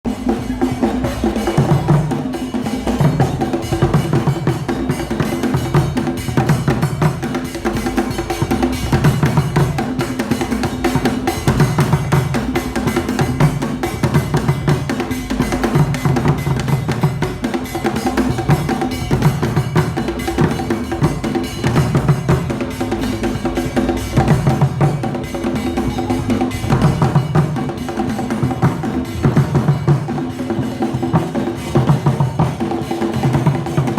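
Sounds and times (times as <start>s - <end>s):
drum ensemble playing: 0.0s - 33.9s.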